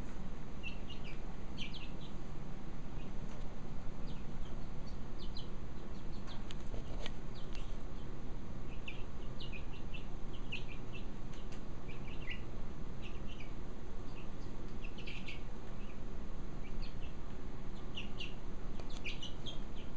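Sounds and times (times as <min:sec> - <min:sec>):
chicks peeping: 0:00.0 - 0:02.3, 0:02.9 - 0:19.9.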